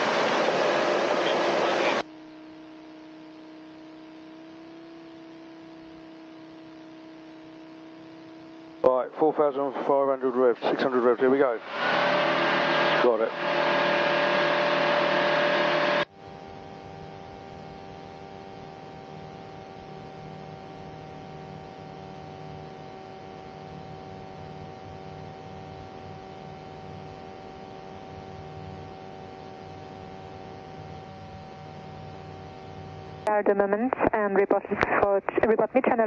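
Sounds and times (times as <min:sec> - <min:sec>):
electrical hum and hiss: 0:00.0 - 0:36.0.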